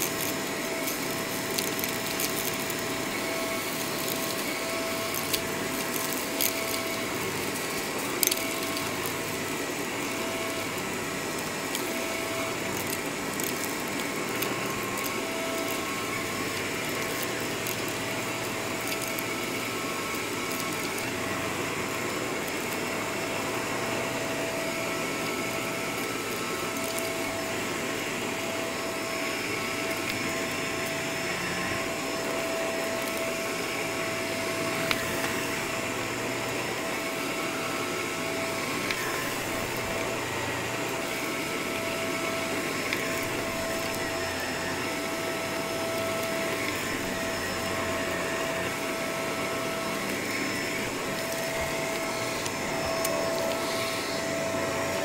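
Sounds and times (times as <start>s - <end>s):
grit crackling into vacuum: 0.0s - 55.0s
vacuum cleaner running over carpet: 0.0s - 55.0s.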